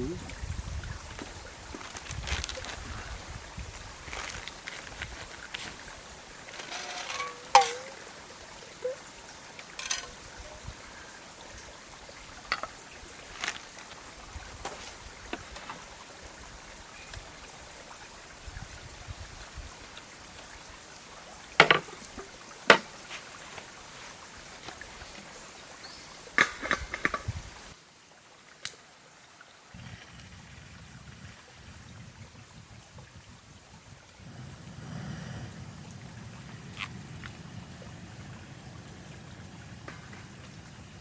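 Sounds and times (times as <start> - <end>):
faint steady hiss: 0.0 - 41.0.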